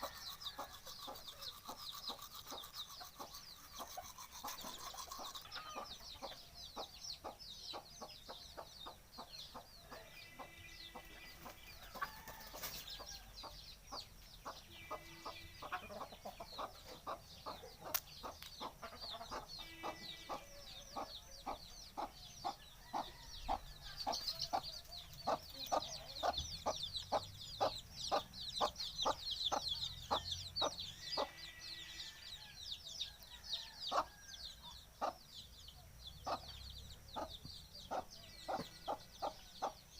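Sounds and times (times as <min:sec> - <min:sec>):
chickens clucking: 0:00.0 - 0:31.4, 0:34.8 - 0:39.9.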